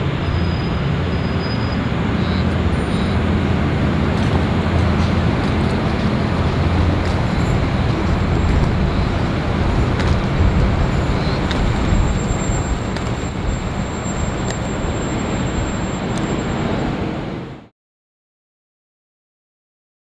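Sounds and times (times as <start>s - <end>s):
diesel train rumble: 0.0s - 17.7s.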